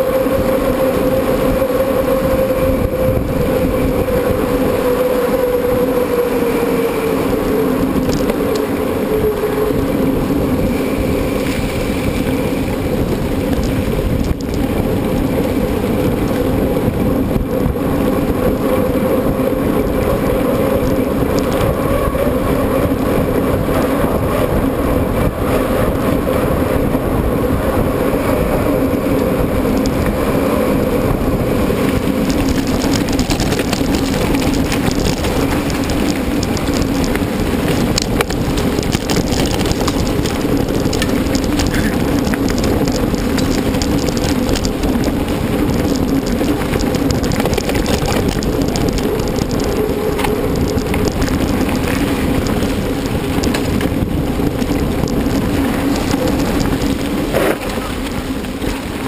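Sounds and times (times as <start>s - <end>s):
bike tyres rolling: 0.0s - 59.0s
wind on microphone: 0.0s - 59.0s.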